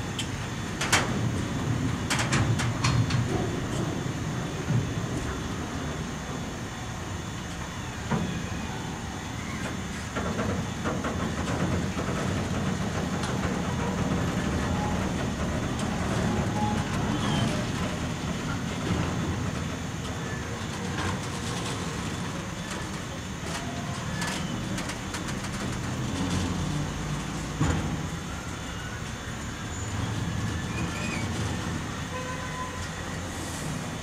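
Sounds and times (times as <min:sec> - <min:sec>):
clanks from wheels and couplings: 0:00.0 - 0:34.0
rumble of train wheels on rail: 0:00.0 - 0:34.0.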